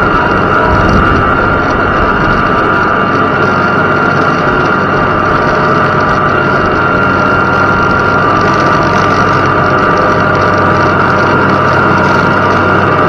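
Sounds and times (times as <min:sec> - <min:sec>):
constant high tone: 0:00.0 - 0:13.0
tractor engine under load: 0:00.0 - 0:13.0.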